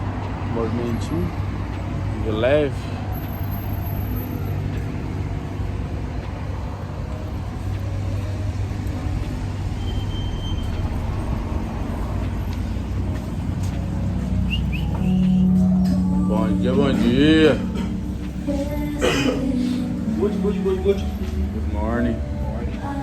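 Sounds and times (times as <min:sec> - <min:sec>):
low engine hum: 0:00.0 - 0:23.0
vehicles passing: 0:00.0 - 0:23.0.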